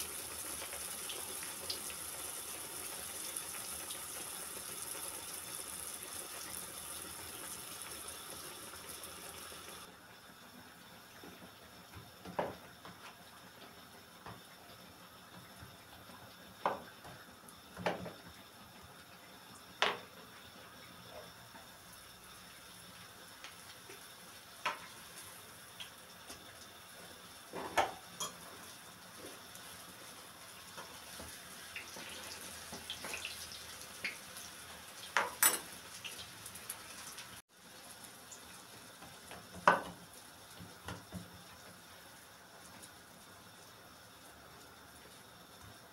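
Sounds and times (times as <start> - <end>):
dough sizzling in oil: 0.0 - 45.9.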